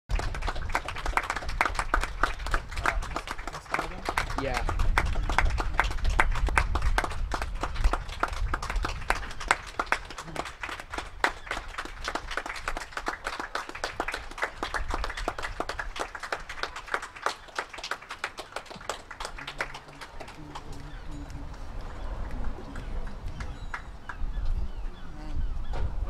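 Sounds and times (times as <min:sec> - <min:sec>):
people clapping: 0:00.1 - 0:24.4.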